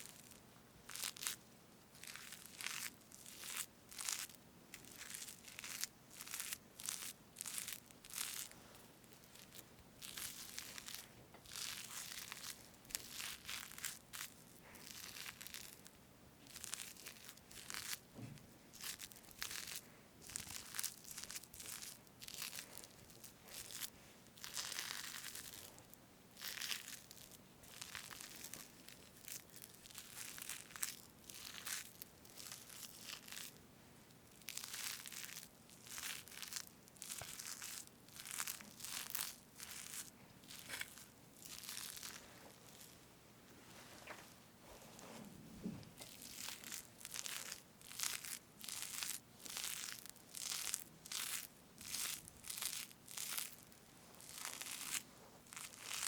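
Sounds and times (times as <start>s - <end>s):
whipped cream squelching: 0.0s - 43.1s, 44.0s - 56.0s.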